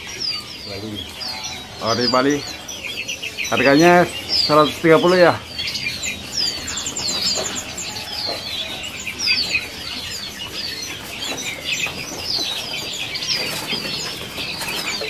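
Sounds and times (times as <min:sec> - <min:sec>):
songbirds chirping in chorus: 0:00.0 - 0:15.0.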